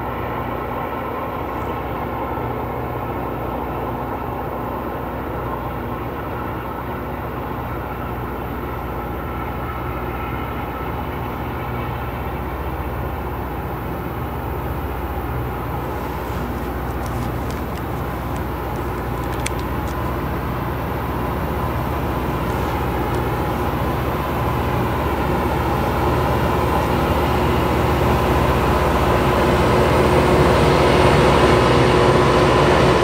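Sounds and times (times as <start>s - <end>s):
rail grinder train droning: 0.0s - 33.0s.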